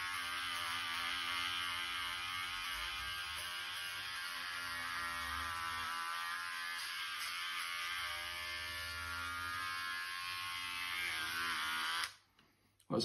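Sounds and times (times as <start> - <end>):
electric hair clippers buzzing: 0.0 - 12.3.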